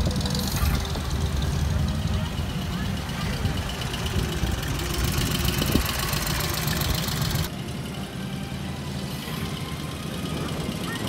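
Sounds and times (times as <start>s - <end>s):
car engines rumbling in traffic: 0.0s - 11.0s.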